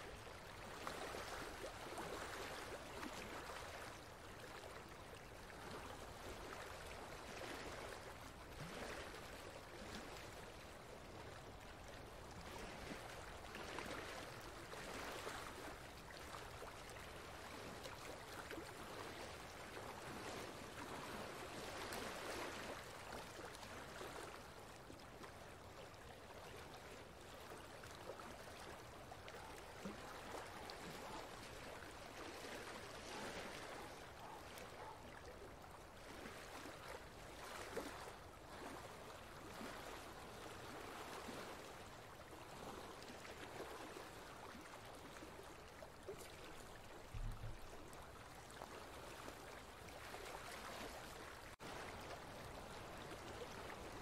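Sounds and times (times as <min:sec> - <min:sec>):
flowing water rushing: 0:00.1 - 0:54.0.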